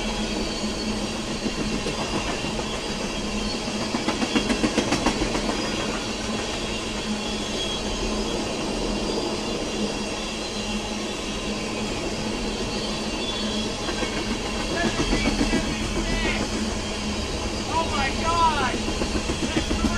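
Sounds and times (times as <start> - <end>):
freight train rumbling past: 0.0 - 19.9.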